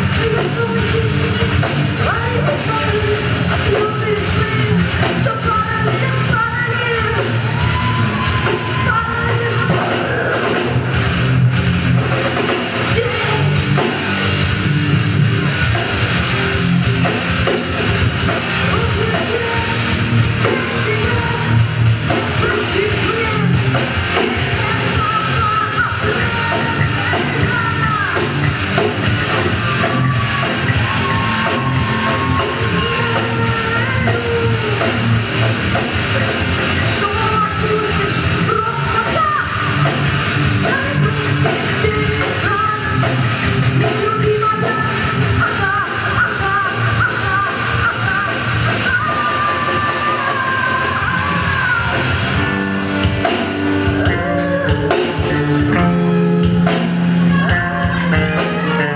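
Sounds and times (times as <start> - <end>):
person singing: 0.0 - 10.8, 12.8 - 14.0, 18.5 - 58.9
bass guitar: 0.0 - 58.9
drum kit: 0.0 - 58.9
electric guitars: 0.0 - 58.9.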